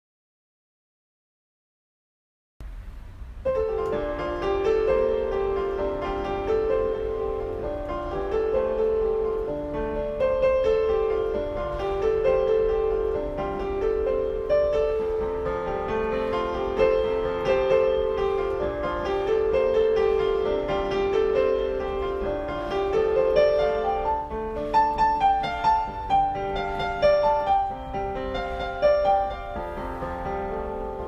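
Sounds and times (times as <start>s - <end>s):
slow piano music: 2.9s - 31.0s.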